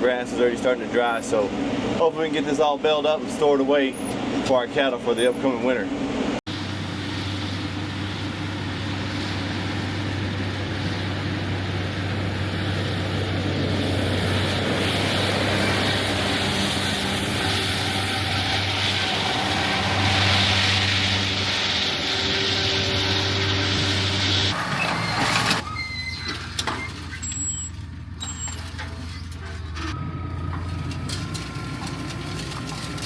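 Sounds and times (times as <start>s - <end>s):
tractor engine hum: 6.1s - 33.0s
hay mower rushing noise: 6.5s - 33.0s.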